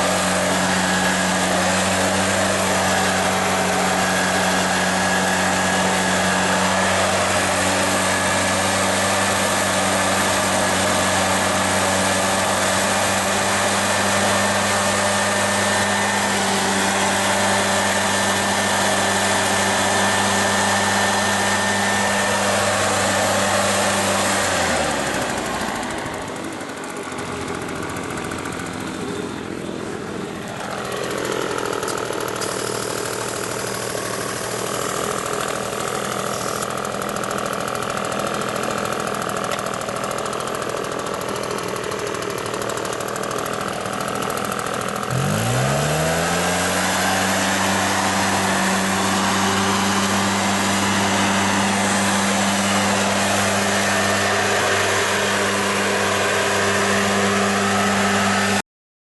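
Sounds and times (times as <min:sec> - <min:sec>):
leaf blower engine running: 0:00.0 - 0:58.6.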